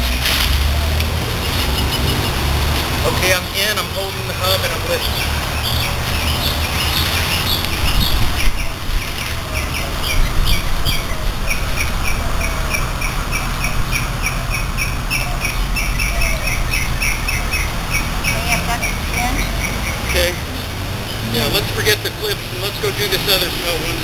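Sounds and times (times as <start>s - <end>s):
bird chirping: 1.3s - 24.0s.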